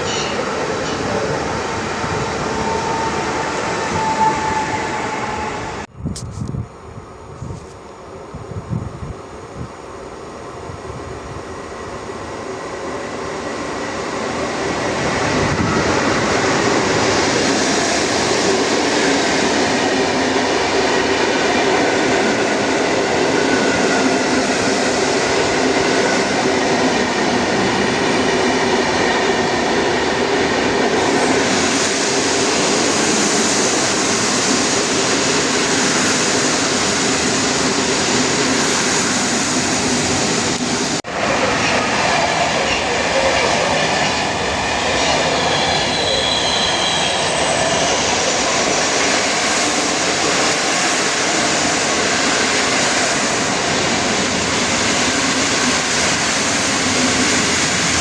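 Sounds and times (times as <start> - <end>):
train wheels on rails: 7.3 - 58.0.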